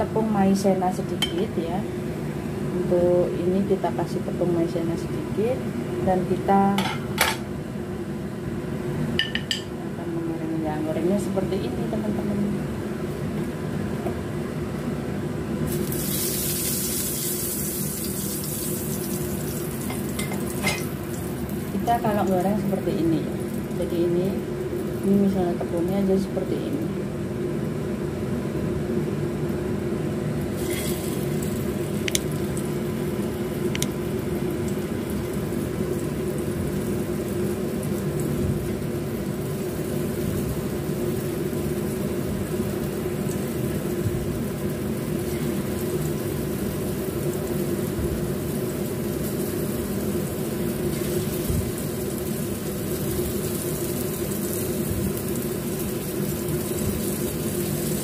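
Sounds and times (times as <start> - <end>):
low mechanical whirring hum: 0.0 - 58.0.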